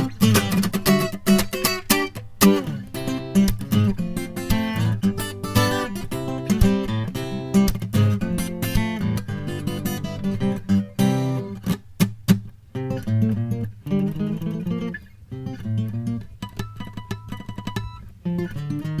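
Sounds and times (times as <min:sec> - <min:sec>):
acoustic guitar strummed and plucked: 0:00.0 - 0:19.0.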